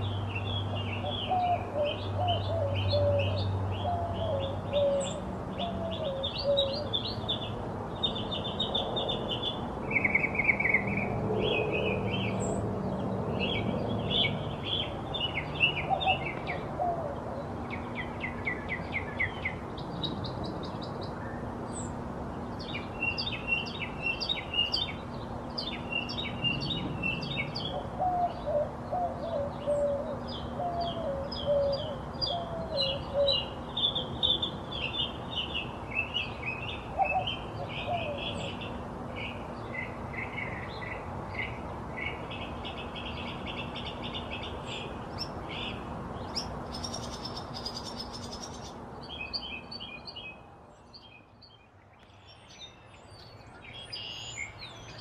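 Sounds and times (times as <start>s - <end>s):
bird singing varied phrases: 0.0s - 12.6s, 22.6s - 55.0s.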